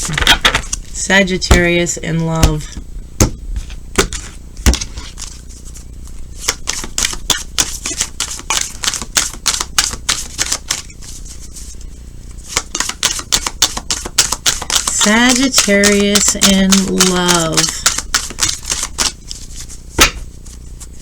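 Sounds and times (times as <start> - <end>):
cards being shuffled: 3.6 - 21.0.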